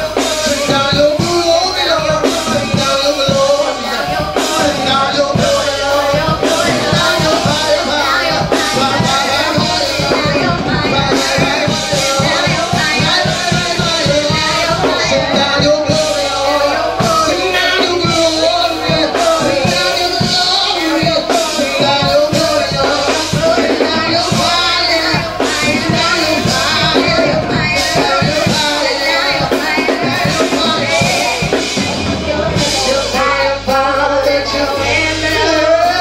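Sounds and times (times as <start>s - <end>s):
band playing: 0.0s - 36.0s
drum kit beat: 0.0s - 36.0s
person singing: 0.0s - 36.0s.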